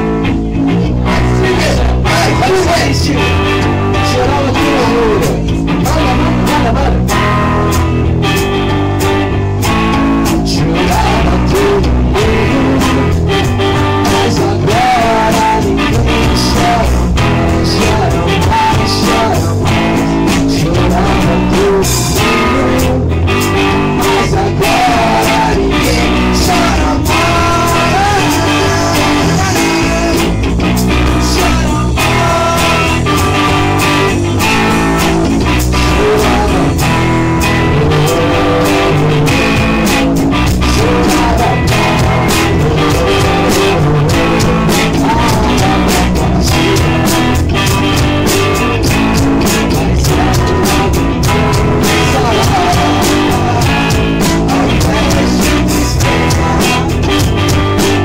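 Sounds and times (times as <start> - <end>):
electric guitar bending lead line: 0.0 - 58.0
steady drum beat: 0.0 - 58.0.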